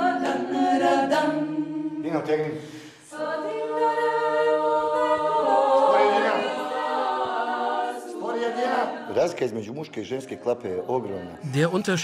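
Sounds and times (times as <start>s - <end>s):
a cappella group singing in harmony: 0.0s - 12.0s.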